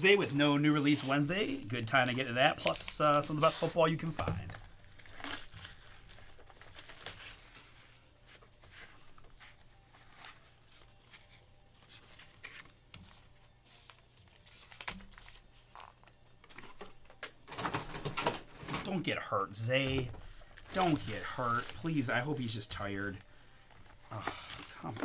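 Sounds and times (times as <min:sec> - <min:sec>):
foil wrappers crinkling and tearing: 0:00.0 - 0:19.0, 0:19.6 - 0:25.0.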